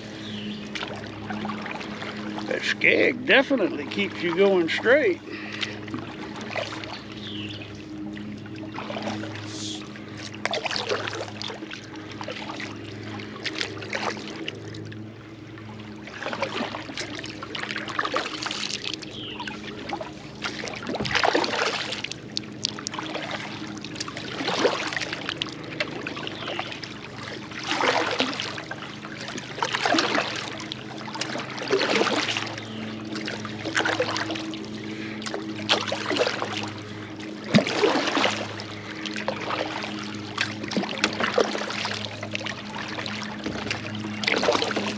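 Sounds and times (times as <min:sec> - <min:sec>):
kayak paddle splashing water: 0:00.0 - 0:44.9.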